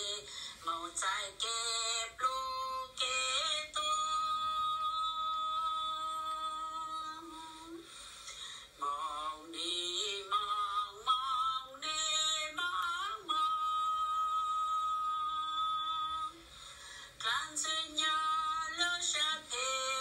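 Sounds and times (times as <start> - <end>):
person singing slow melody: 0.0 - 20.0.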